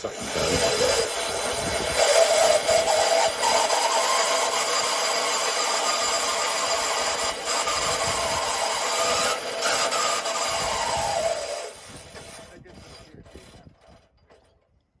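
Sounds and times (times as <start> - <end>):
saw blade cutting log: 0.0 - 14.6.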